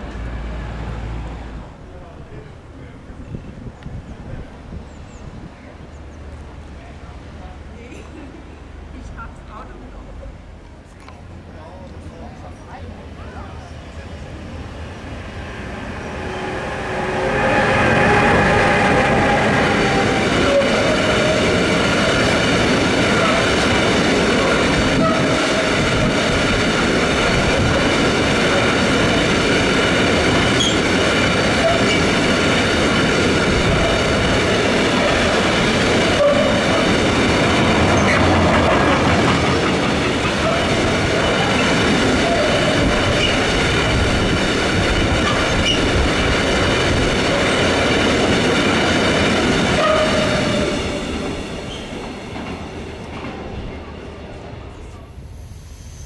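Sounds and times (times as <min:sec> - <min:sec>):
train wheels rumbling on rails: 0:00.0 - 0:55.7.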